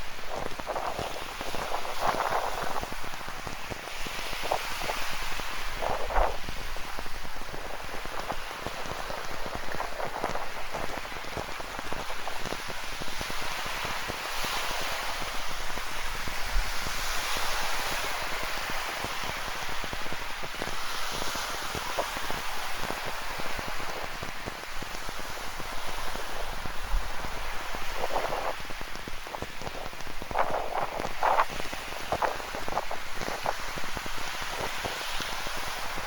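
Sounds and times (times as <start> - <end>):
ocean surf: 0.0 - 36.0.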